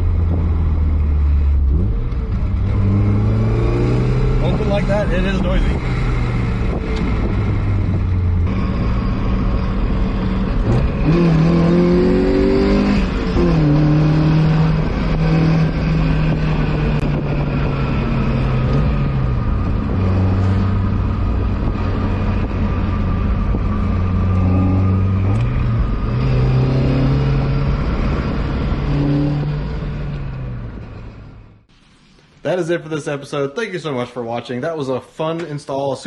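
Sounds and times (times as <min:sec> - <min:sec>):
car engine running with gear changes: 0:00.0 - 0:31.7
road noise: 0:00.0 - 0:36.0.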